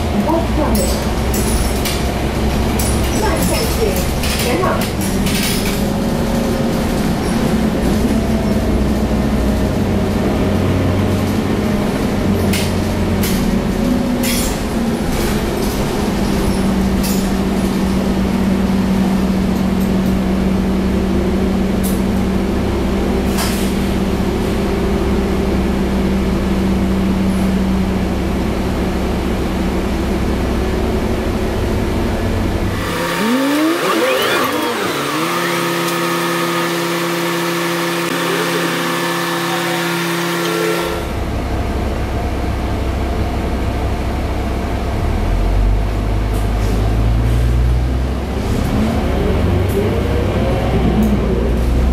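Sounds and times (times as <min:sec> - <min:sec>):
bus engine idling: 0:00.0 - 0:35.7, 0:37.9 - 0:51.9
bus engine and road noise: 0:00.0 - 0:51.9.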